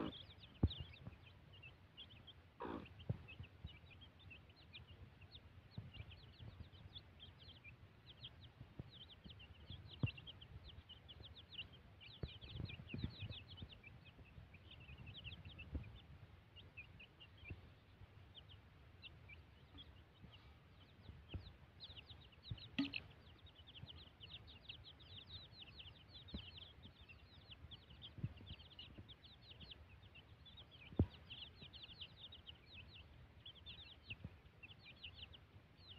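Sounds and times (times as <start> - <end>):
baby chicks peeping: 0.0 - 35.9.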